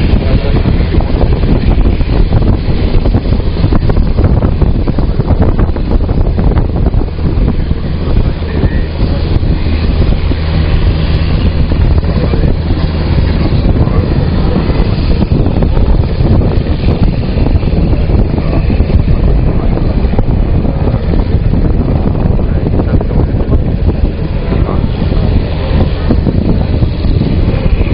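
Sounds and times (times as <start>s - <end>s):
helicopter engine and rotor noise: 0.0s - 27.9s
rotor wash buffeting microphone: 0.0s - 27.9s.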